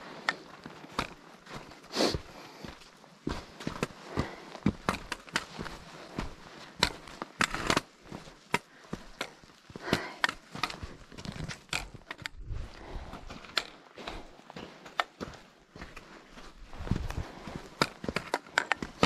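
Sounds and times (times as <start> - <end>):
footsteps on rocky trail: 0.0 - 19.0.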